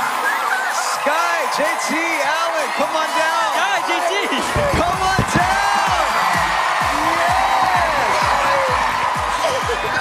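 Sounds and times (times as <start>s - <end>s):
audience cheering and whooping: 0.0s - 10.0s
upbeat celebration music: 0.0s - 10.0s.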